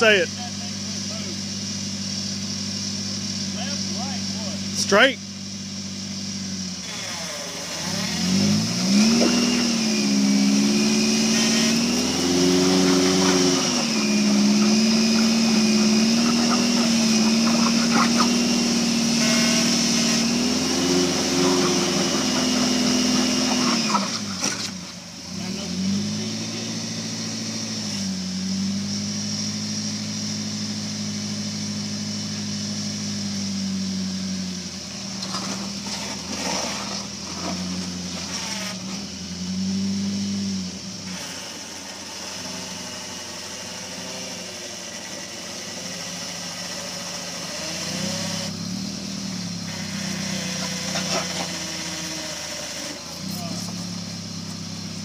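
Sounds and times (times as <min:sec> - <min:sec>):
engine revving at low revs: 0:00.0 - 0:55.0.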